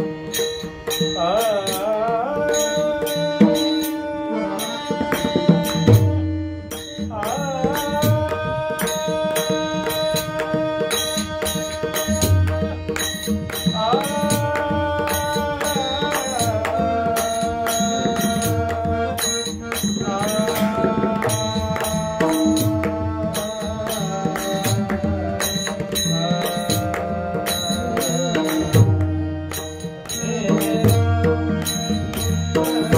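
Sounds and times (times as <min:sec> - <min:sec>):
man singing: 0:00.0 - 0:32.9.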